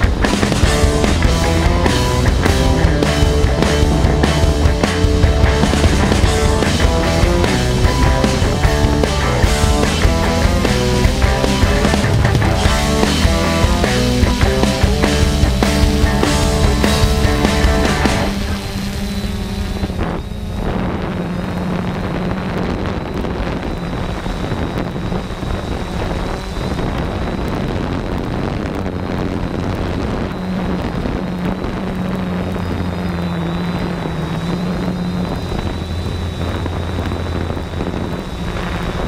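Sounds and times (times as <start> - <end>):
drone propellers humming: 0.0 - 39.0
wind noise on microphone: 0.0 - 39.0.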